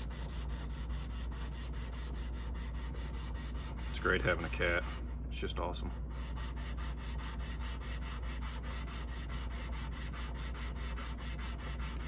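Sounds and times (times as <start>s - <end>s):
blade scraping on sandpaper: 0.0s - 5.1s, 6.1s - 12.0s
steady low hum: 0.0s - 12.0s.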